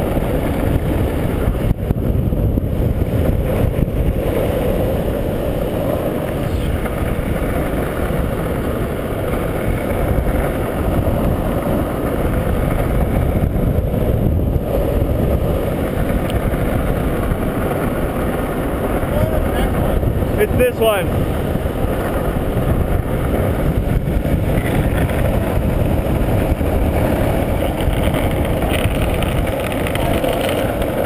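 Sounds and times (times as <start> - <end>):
longboard wheels rolling on asphalt: 0.0 - 31.0
wind against camera: 0.0 - 31.0.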